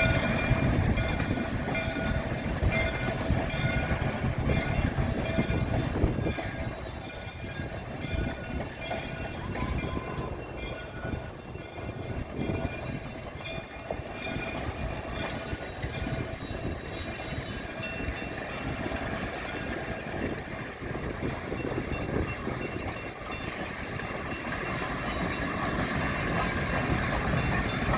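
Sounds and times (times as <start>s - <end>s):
low train rumble: 0.0s - 27.9s
train wheels clattering on rails: 0.0s - 27.9s.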